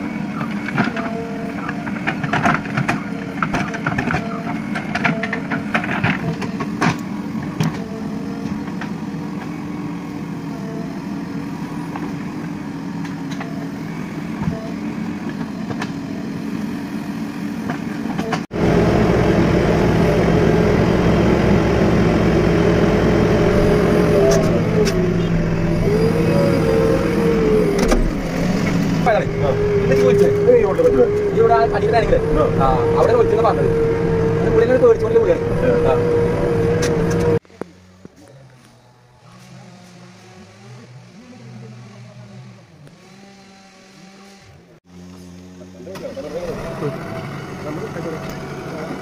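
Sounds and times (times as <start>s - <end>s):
diesel engine running under load: 0.0s - 49.0s.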